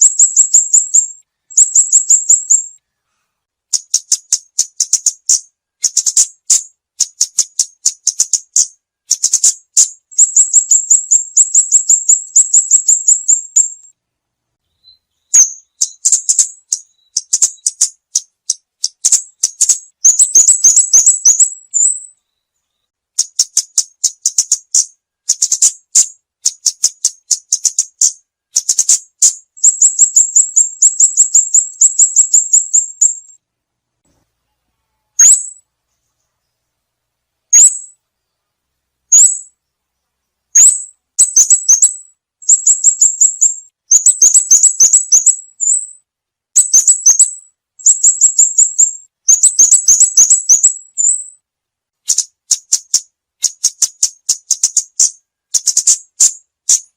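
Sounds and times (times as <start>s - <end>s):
songbird high-pitched chirps and trills: 0.0s - 3.1s, 3.7s - 14.0s, 14.6s - 33.4s, 34.5s - 36.8s, 37.4s - 51.4s, 52.1s - 56.9s.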